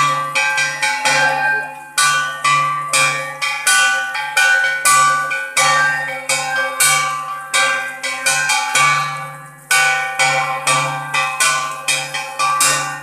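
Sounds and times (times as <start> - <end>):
metal bell ringing: 0.0 - 13.0.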